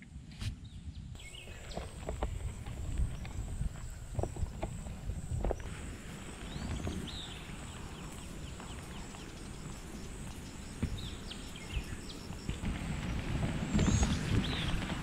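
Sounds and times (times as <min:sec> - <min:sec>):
bird chirps: 0:00.7 - 0:15.0.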